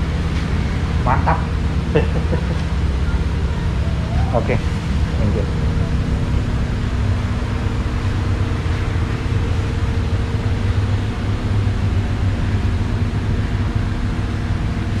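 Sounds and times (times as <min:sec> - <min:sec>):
faint steady tones: 0:00.0 - 0:15.0
low mechanical hum: 0:00.0 - 0:15.0.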